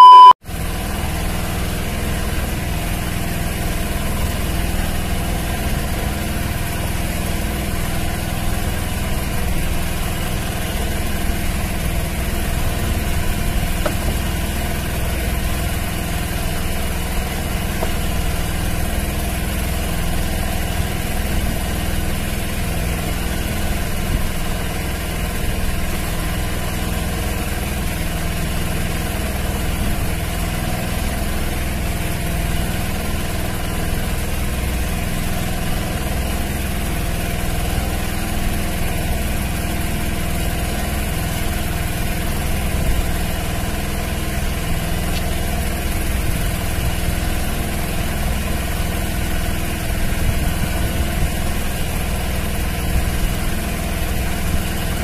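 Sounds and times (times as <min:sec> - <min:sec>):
boat engine idling: 0:00.5 - 0:55.0.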